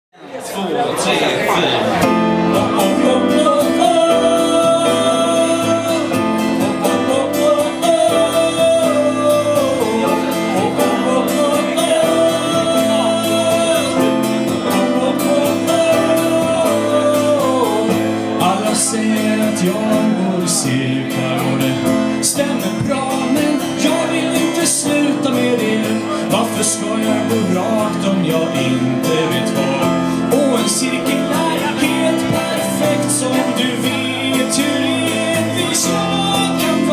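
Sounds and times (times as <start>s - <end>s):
keyboard: 1.1s - 36.9s
plucked string instrument: 1.5s - 36.9s
strummed acoustic guitar: 1.5s - 36.9s
person singing: 2.0s - 36.9s.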